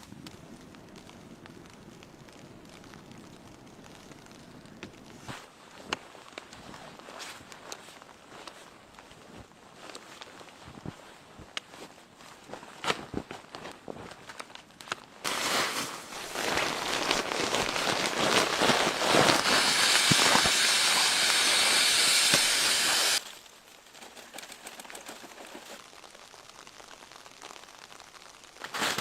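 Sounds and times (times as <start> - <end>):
loud hiss with faint crackling: 0.0 - 10.6, 14.2 - 29.0.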